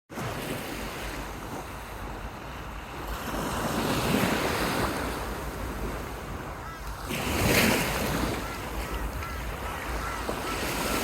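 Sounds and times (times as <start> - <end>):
ocean waves washing in: 0.1 - 11.0
wind buffeting microphone: 0.2 - 11.0.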